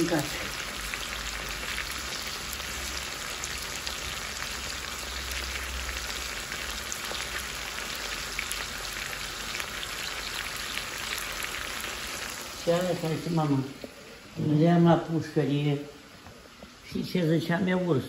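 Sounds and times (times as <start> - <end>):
meat sizzling in hot oil: 0.0 - 16.9.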